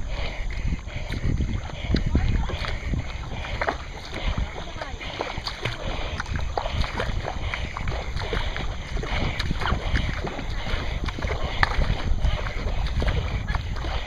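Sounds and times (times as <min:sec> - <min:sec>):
low wind rumble on microphone: 0:00.0 - 0:14.0
small water splashes: 0:00.0 - 0:14.0
water rushing along kayak hull: 0:00.0 - 0:14.0.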